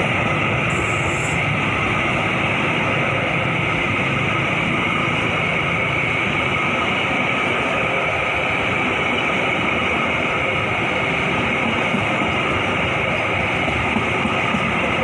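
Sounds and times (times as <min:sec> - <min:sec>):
train wheels on rail: 0:00.0 - 0:15.0.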